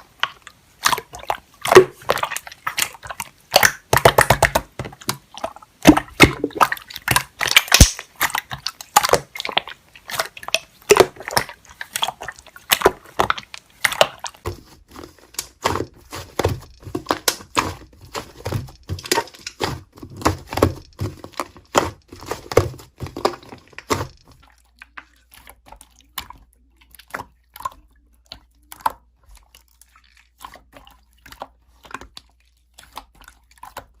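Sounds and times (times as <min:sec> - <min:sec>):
slime clicking and squishing: 0:00.0 - 0:34.0.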